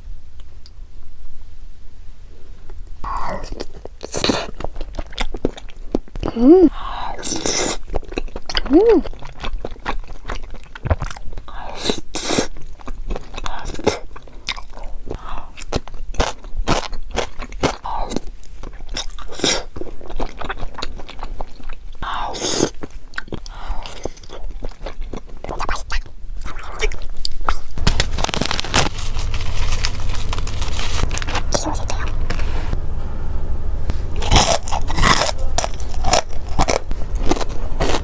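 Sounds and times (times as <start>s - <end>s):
chewing and crunching food: 3.0s - 32.2s, 34.2s - 38.0s.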